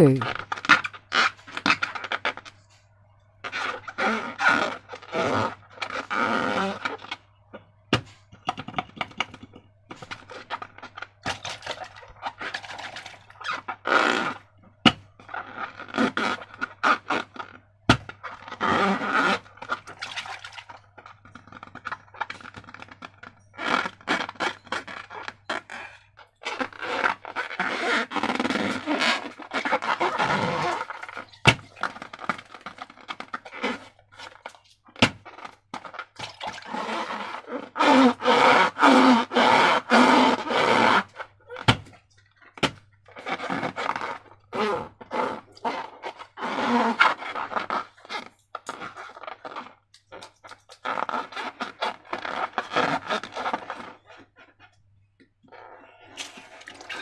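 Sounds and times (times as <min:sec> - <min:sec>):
wet slime squelching and scraping: 0:07.9 - 0:54.8, 0:55.4 - 0:57.0.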